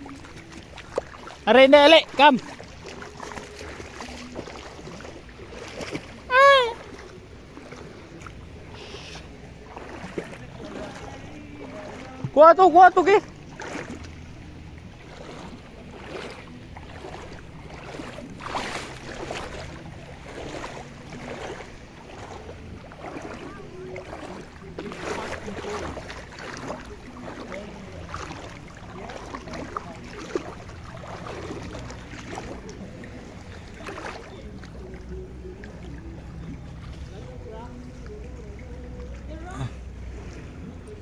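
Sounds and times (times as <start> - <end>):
seawater sloshing and splashing: 0.0 - 41.0.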